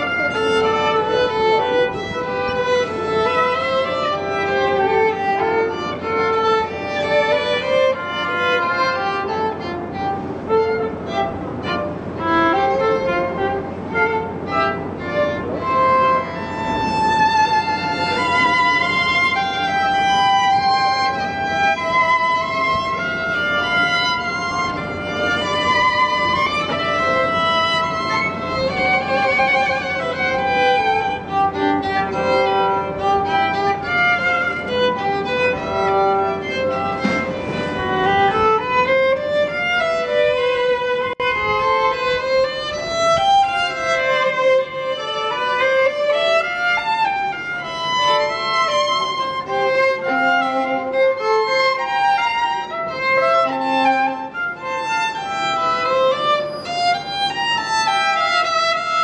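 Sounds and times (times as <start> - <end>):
two violins playing duet: 0.0 - 59.0.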